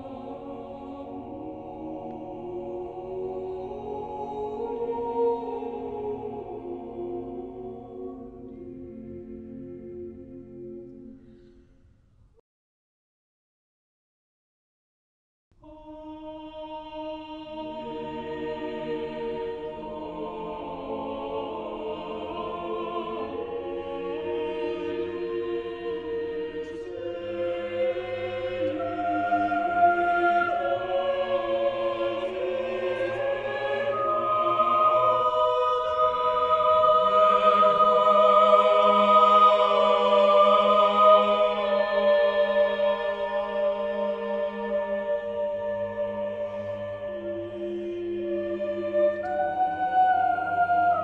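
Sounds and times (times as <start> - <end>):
choir singing held chords: 0.0 - 11.6, 15.6 - 51.0.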